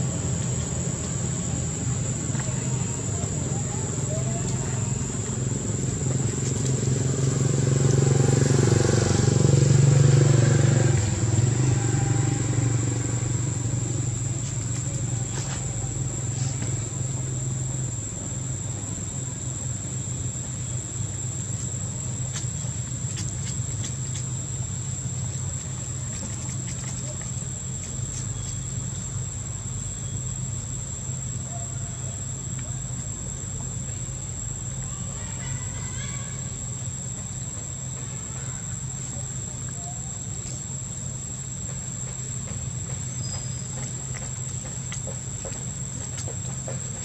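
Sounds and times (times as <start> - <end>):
passing motor vehicle engine hum: 0.0 - 47.0.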